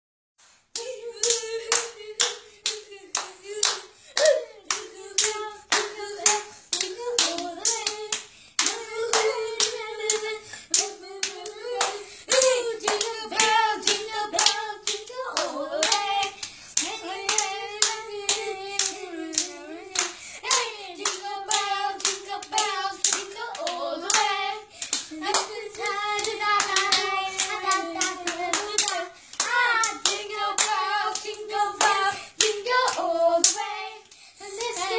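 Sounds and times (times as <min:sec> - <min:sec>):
hands clapping: 0:00.4 - 0:34.9
children singing: 0:00.8 - 0:34.9.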